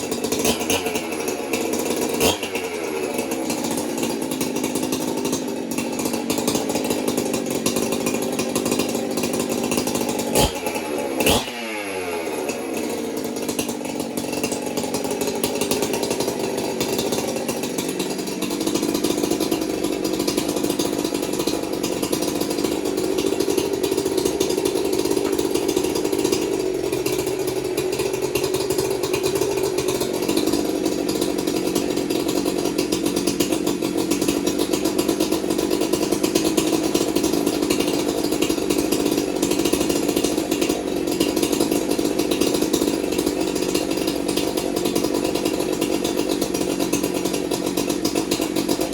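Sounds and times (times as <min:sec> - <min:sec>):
chainsaw engine running: 0:00.0 - 0:48.9.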